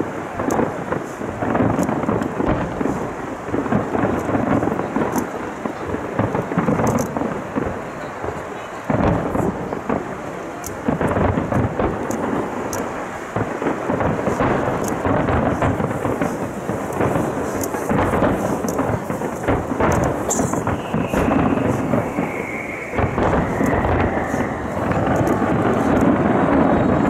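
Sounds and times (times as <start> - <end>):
fireworks bursts rumbling: 0.0 - 27.0
sharp fireworks cracks: 0.0 - 27.0.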